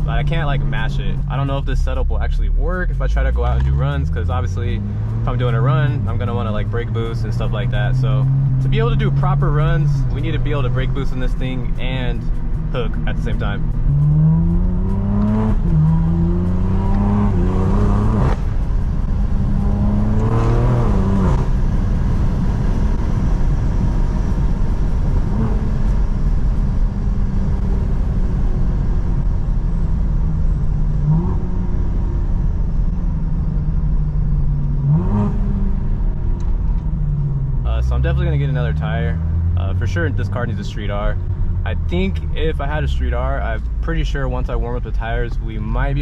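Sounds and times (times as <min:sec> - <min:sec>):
car engine accelerating through gears: 0:00.0 - 0:44.9
deep exhaust drone: 0:00.0 - 0:46.0.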